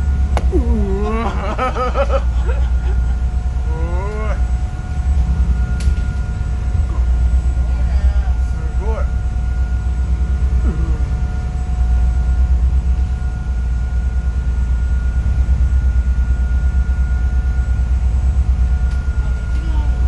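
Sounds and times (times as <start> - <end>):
boat engine drone: 0.0 - 20.0
engine whine: 0.0 - 20.0.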